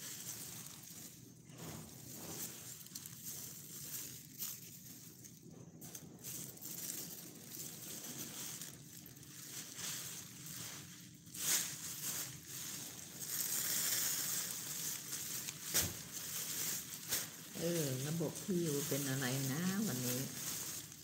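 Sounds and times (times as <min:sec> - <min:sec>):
plastic sheeting crinkling: 0:00.0 - 0:21.0.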